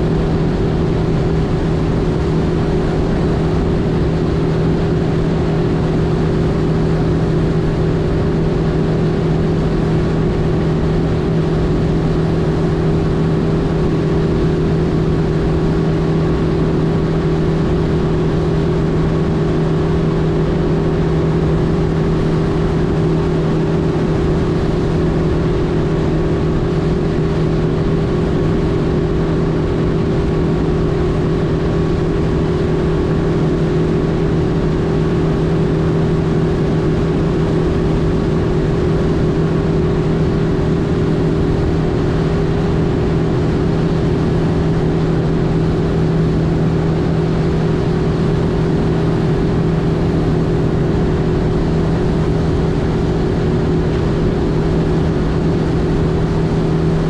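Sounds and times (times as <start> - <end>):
outboard motor humming: 0.0 - 57.0.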